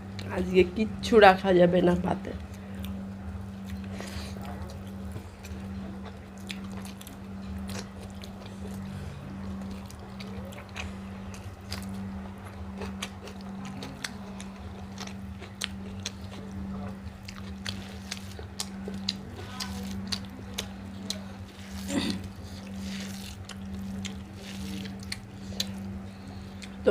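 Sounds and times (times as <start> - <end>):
steady low hum: 0.0 - 26.9
chewing and mouth smacks: 3.6 - 26.0.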